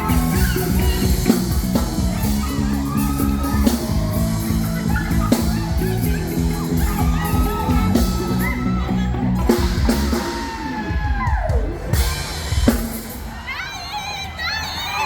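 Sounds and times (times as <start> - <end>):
sliding melody: 0.0 - 12.5
bass line: 0.0 - 13.3
live band music: 0.0 - 13.6
drum kit: 0.0 - 14.0
crowd noise: 0.0 - 15.0.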